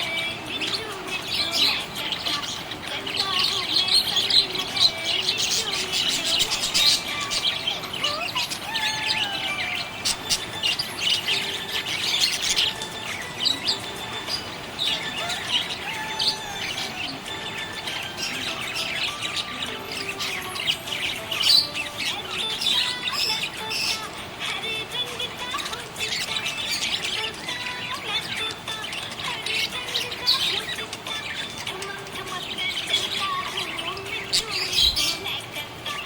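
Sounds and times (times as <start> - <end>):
budgerigars chirping: 0.0 - 36.0.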